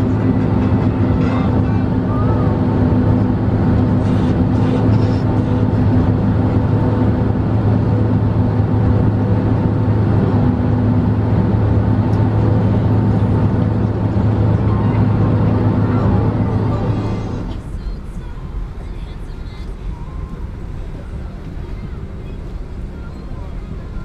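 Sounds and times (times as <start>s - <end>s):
jet engines humming in cabin: 0.0s - 24.0s.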